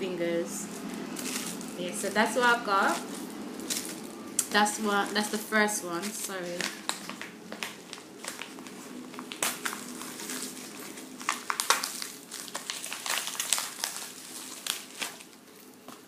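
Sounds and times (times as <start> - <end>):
packaging crinkling and rustling: 0.6 - 16.0.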